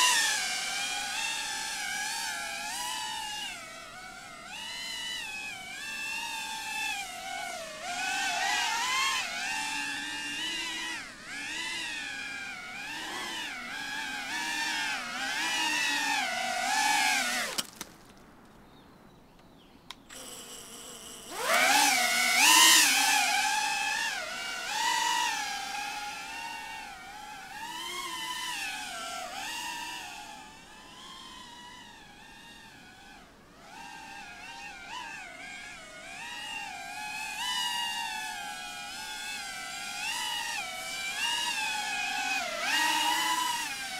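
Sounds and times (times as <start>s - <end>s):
drone propellers whining: 0.0s - 17.7s, 20.1s - 43.9s.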